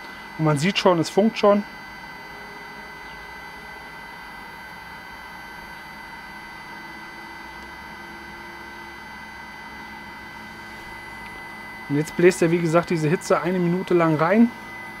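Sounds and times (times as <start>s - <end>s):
high fan whine: 0.0s - 15.0s.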